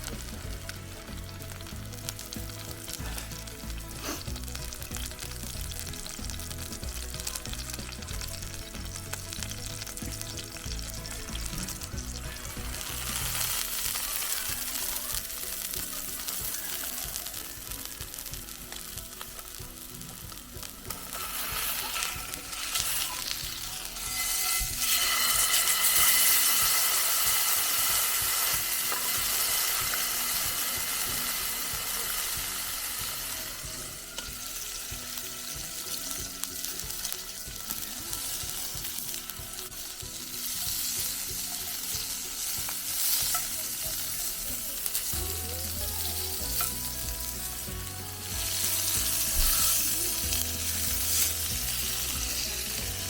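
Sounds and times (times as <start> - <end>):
light background music: 0.0 - 53.0
steak sizzling in a pan: 0.0 - 53.0.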